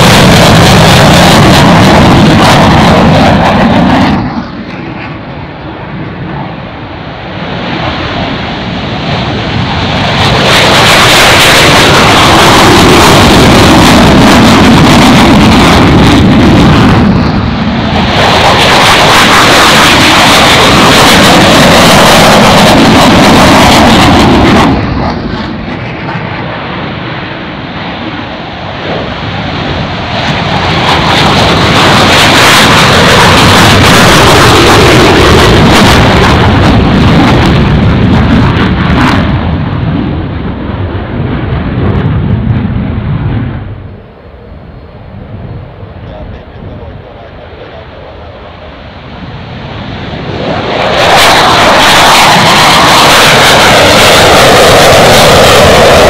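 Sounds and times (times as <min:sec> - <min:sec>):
jet roar with rough crackle: 0:00.0 - 0:56.0.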